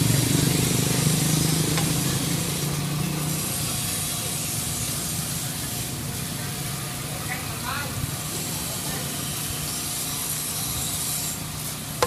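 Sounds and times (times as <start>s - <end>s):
steady street hiss: 0.0s - 12.0s.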